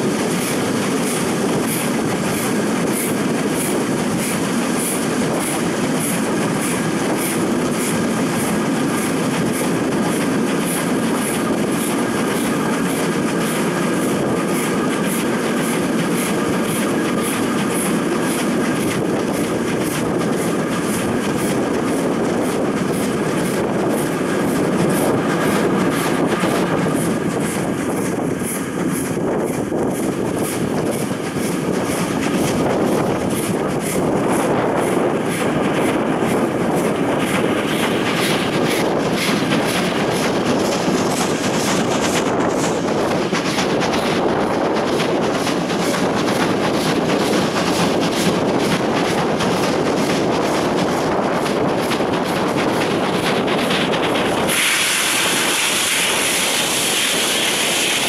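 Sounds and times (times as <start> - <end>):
train wheels and wind rushing: 0.0 - 58.0.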